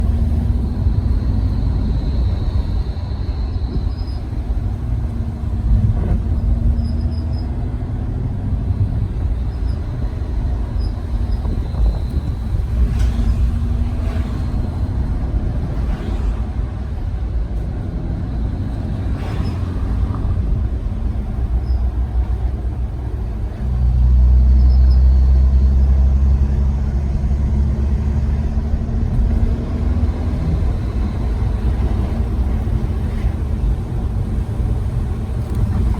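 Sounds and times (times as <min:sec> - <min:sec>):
car engine low rumble: 0:00.0 - 0:35.9.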